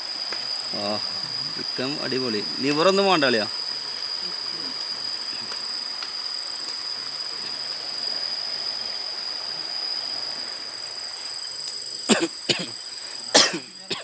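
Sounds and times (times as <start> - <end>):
crickets trilling: 0.0 - 14.0
faint hiss: 0.0 - 14.0.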